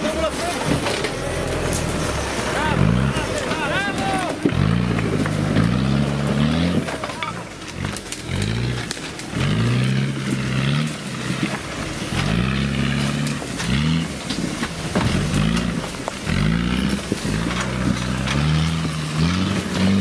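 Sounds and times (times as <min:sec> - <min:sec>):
engine revving in bursts: 0:00.0 - 0:20.0.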